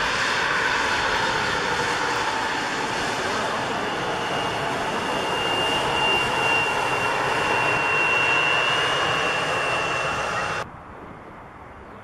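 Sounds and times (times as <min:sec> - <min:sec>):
jet engines roaring and whining: 0:00.0 - 0:10.7.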